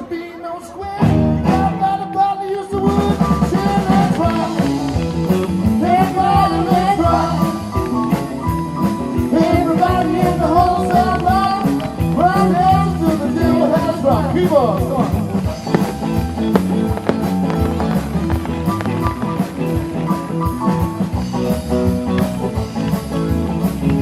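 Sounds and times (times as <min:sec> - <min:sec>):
rock music with singing: 0:00.0 - 0:24.0.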